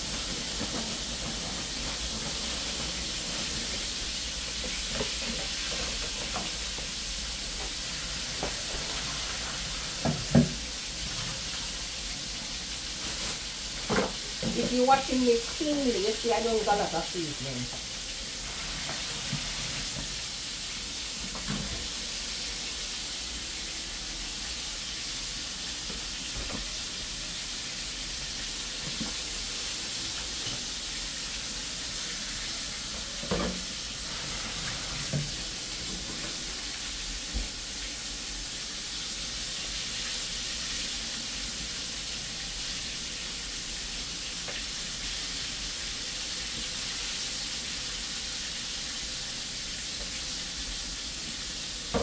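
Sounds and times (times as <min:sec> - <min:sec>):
food sizzling in oil: 0:00.0 - 0:52.0.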